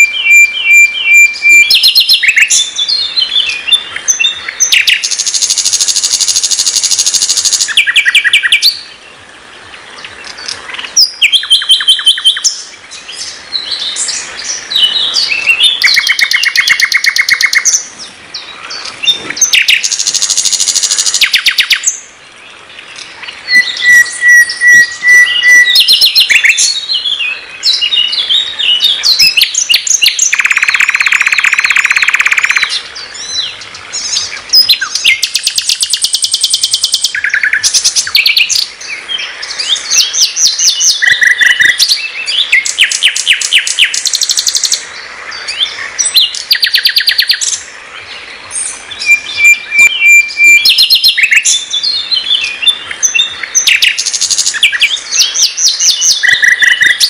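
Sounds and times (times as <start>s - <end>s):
nightingale singing: 0.0s - 57.0s.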